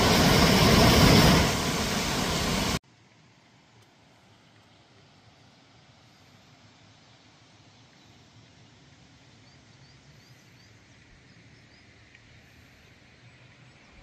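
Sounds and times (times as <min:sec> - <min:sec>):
faint countryside ambience hiss: 0:00.0 - 0:14.0.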